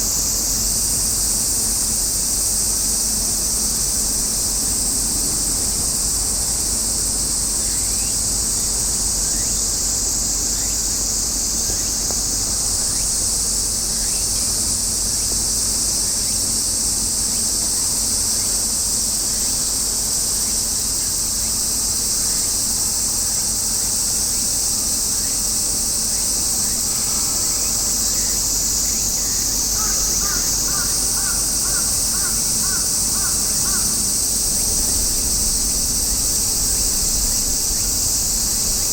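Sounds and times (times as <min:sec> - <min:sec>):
cicadas shrilling: 0:00.0 - 0:38.9.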